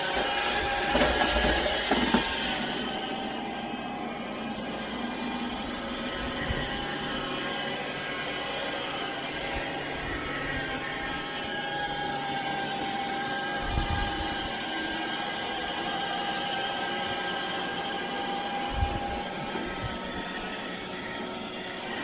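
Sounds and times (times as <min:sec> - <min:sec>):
robot vacuum whirring: 0:00.0 - 0:22.0.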